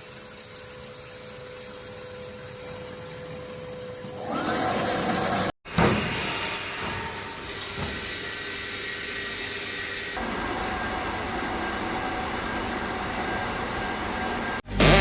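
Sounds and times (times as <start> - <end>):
vacuum forming machine hissing and humming: 0.0 - 14.6.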